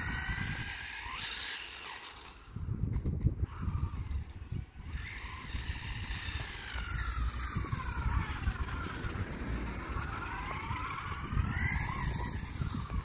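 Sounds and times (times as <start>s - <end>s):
toy car electric motor whining: 0.0s - 13.0s
steady low rumble: 2.5s - 13.0s.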